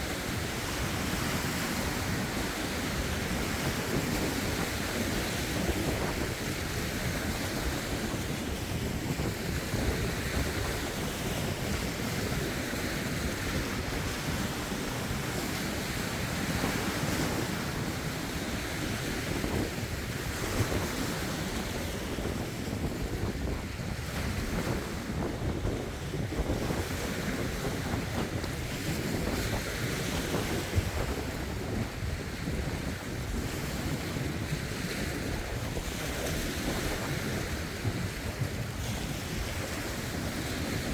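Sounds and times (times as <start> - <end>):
waves splashing over rocks: 0.0 - 40.9
wind buffeting microphone: 0.0 - 40.9.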